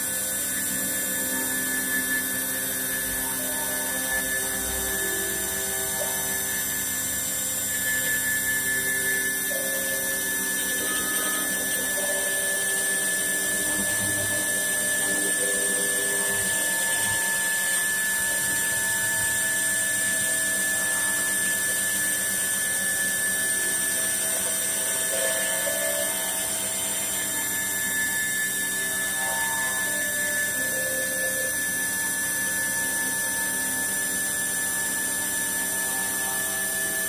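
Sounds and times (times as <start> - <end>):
router spindle high-pitched whine: 0.0 - 37.0.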